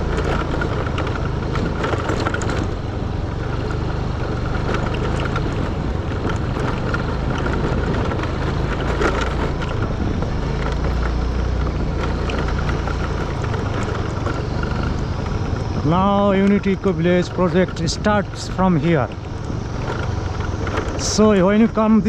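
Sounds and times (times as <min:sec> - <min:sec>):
rattles and knocks: 0:00.0 - 0:21.7
motorbike engine running: 0:00.0 - 0:22.0
road noise: 0:00.0 - 0:22.0.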